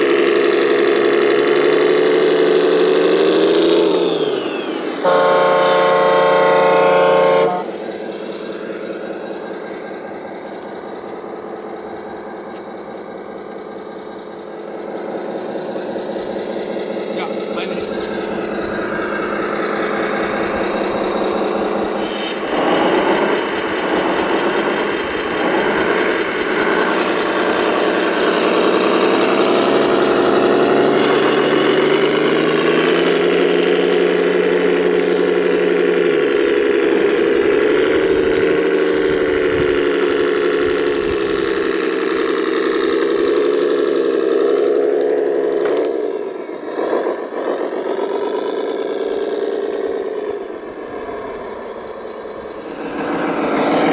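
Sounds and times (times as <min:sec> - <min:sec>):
model vehicle engine running: 0:00.0 - 0:53.9.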